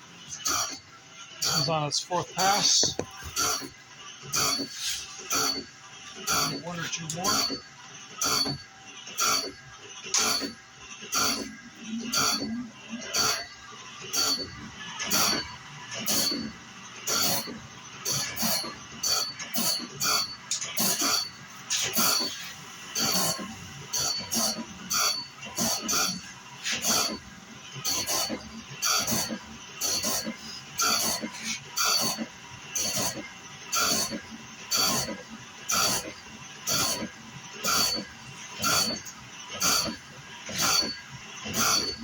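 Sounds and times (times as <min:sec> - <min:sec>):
grinding wheel squeal: 0:00.3 - 0:42.0.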